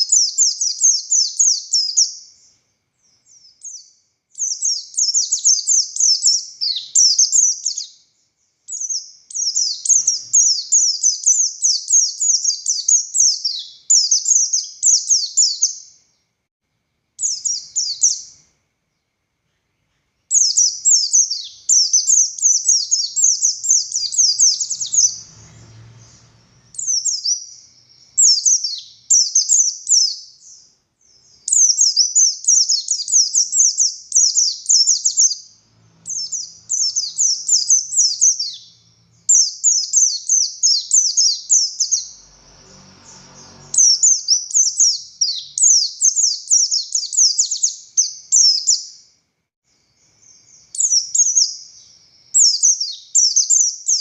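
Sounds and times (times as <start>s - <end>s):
white-eye twittering song: 0.0s - 16.2s, 17.2s - 18.6s, 19.5s - 49.1s, 49.8s - 54.0s.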